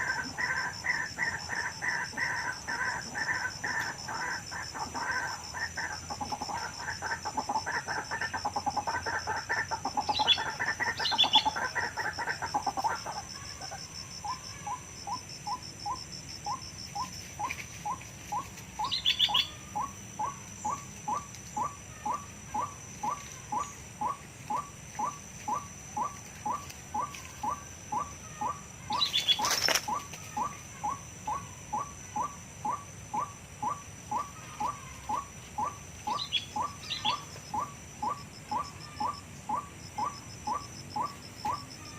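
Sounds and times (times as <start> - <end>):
bird chattering calls: 0.0 - 41.9.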